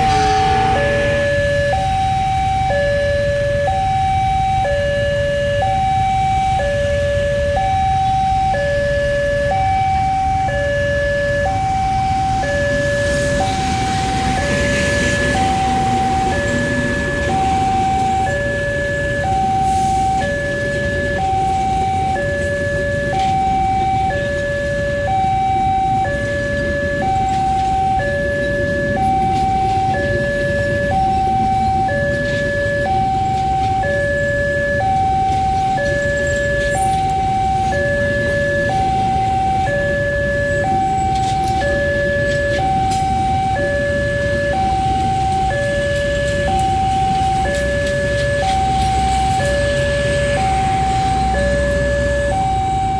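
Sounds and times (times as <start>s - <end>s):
train coaches rumbling past: 0.0s - 4.8s, 9.8s - 52.9s
level crossing alarm two-tone: 0.0s - 52.9s.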